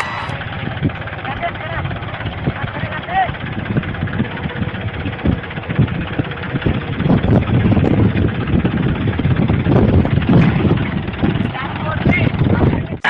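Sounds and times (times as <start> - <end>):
tractor diesel engine running: 0.0 - 13.0
wind buffeting microphone: 0.0 - 13.0.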